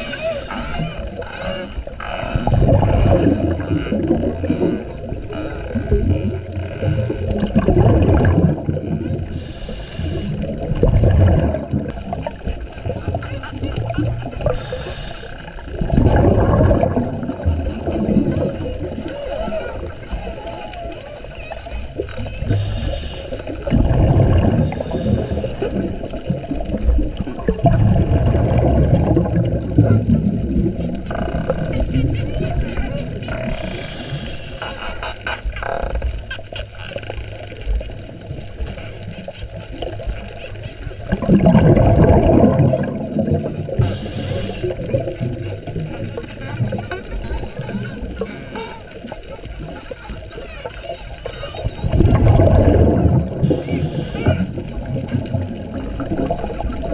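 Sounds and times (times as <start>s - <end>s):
underwater bubbling: 0.0s - 56.9s.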